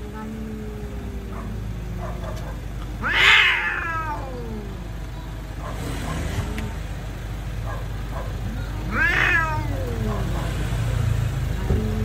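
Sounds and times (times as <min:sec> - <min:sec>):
cats yowling: 0:00.0 - 0:12.0.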